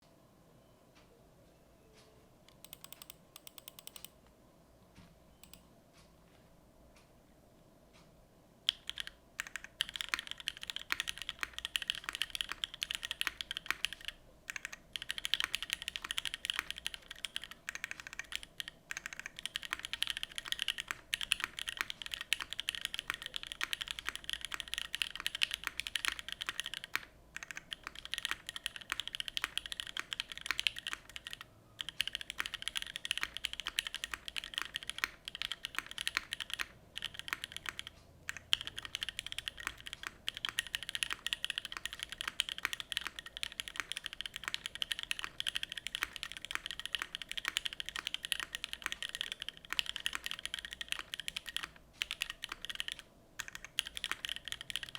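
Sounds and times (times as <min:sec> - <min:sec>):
mechanical keyboard typing: 0:02.5 - 0:04.2, 0:05.4 - 0:05.6, 0:08.7 - 0:54.9.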